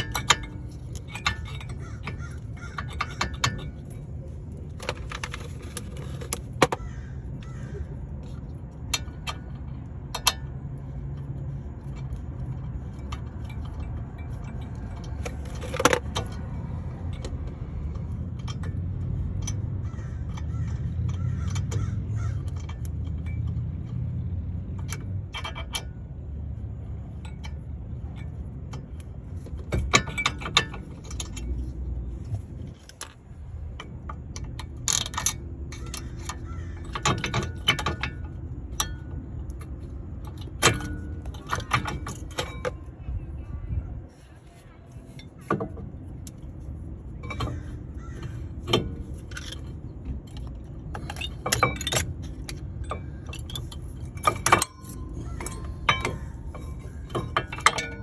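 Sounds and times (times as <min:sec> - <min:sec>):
metal tools clinking: 0:00.0 - 0:06.8, 0:07.7 - 0:43.4, 0:44.4 - 0:58.0
steady low hum: 0:00.0 - 0:58.0.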